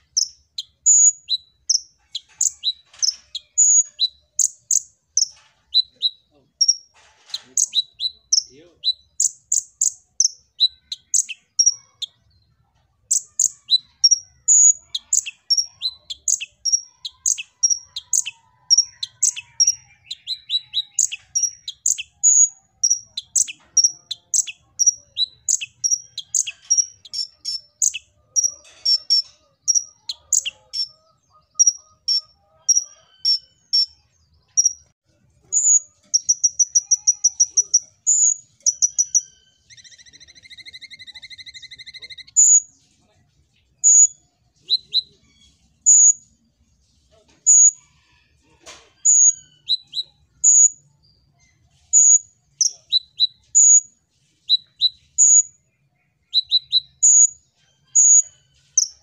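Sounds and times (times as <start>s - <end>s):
bird chirping and trilling: 0.0s - 42.8s, 43.7s - 46.3s, 49.0s - 59.0s.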